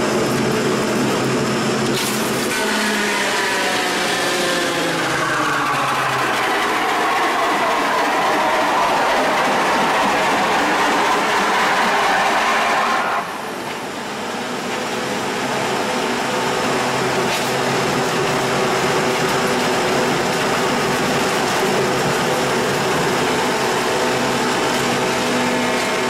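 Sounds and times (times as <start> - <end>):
continuous rushing noise: 0.0 - 26.0
wood crusher machine droning: 0.0 - 26.0.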